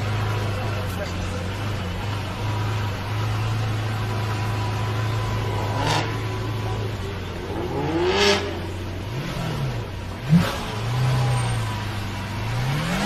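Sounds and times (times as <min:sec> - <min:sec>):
car engine running at low revs: 0:00.0 - 0:13.0
engine revving: 0:00.0 - 0:13.0.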